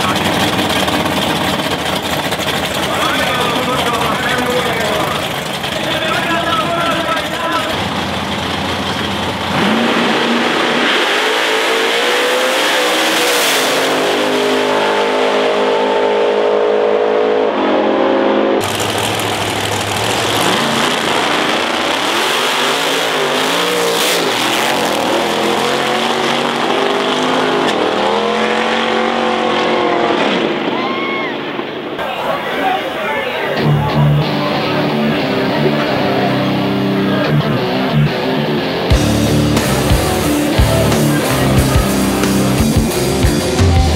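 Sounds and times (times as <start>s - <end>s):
drag car engines revving: 0.0s - 43.9s.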